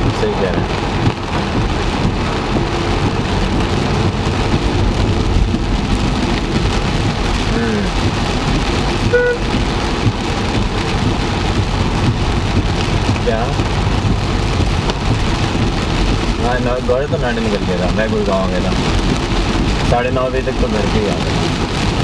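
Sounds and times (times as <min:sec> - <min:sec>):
car road rumble: 0:00.0 - 0:22.0
heavy rain drumming on a car: 0:00.0 - 0:22.0.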